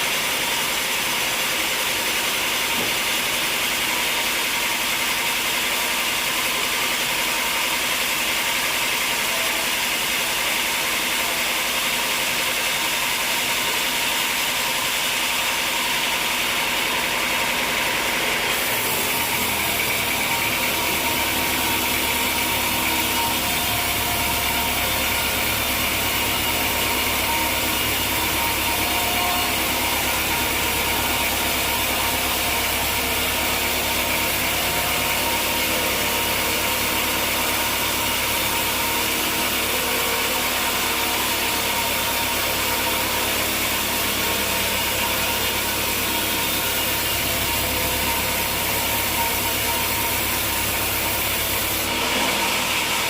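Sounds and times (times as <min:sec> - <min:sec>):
sawmill machinery running: 0:00.0 - 0:53.0.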